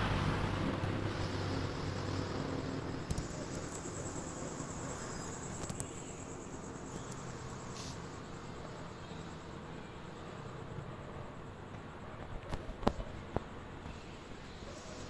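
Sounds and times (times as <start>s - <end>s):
insects trilling: 0.0s - 15.0s
low rushing background noise: 0.0s - 15.0s.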